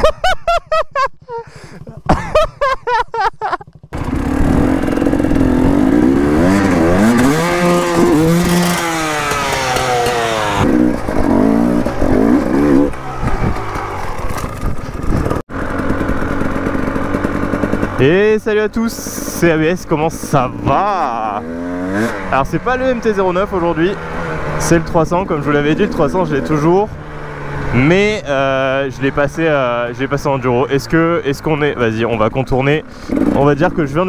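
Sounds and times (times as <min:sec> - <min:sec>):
two-stroke motorcycle engine revving: 0:01.5 - 0:34.0.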